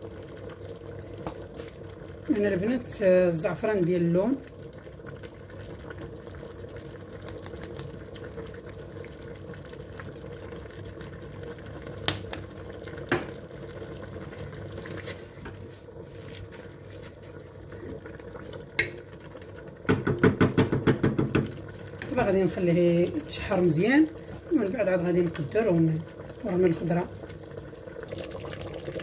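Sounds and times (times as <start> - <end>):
food sizzling in a pot: 0.0 - 29.0.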